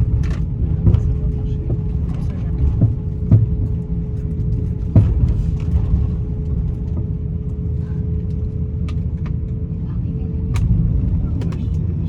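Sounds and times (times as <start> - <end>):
airplane cabin rumble and hum: 0.0 - 12.0.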